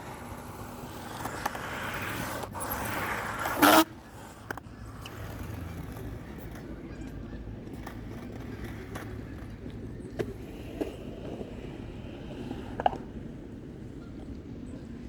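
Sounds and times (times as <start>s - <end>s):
skateboard clacks: 0.0s - 14.5s
skateboard wheels rolling on concrete: 0.0s - 15.0s.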